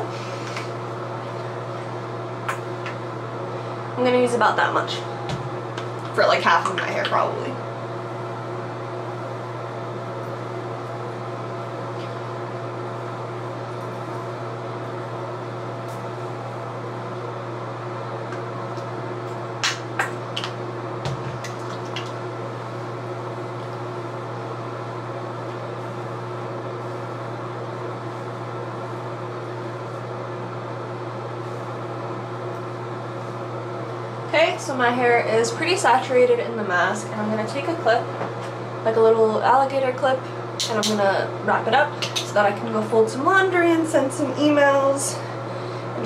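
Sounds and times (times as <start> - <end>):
electric fan hum: 0.0 - 46.0.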